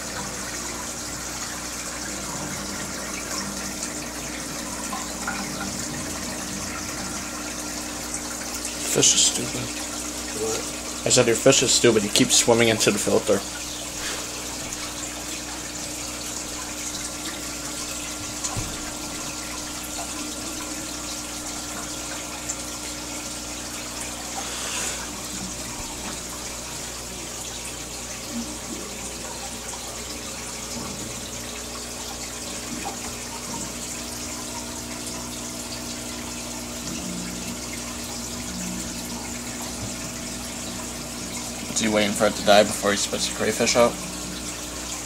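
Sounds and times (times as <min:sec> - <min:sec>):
water splashing trickle: 0:00.0 - 0:45.0.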